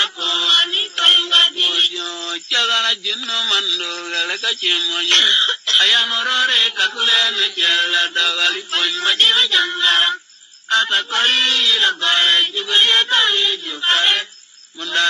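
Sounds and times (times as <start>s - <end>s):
chanted folk singing: 0.0s - 15.0s.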